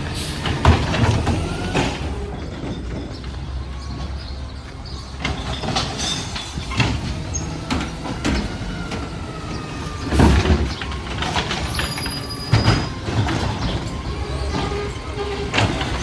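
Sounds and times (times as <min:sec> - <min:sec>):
garbage truck engine running: 0:00.0 - 0:16.0.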